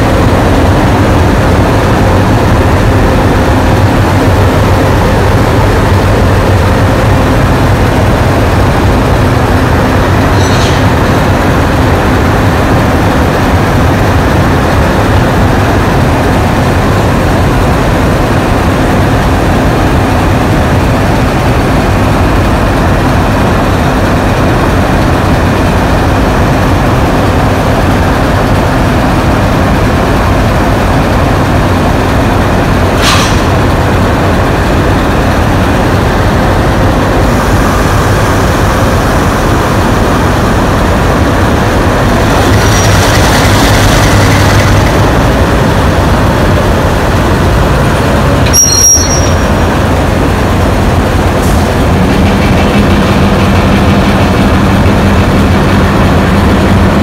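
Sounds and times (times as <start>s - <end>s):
locomotive diesel engines rumbling: 0.0s - 57.0s.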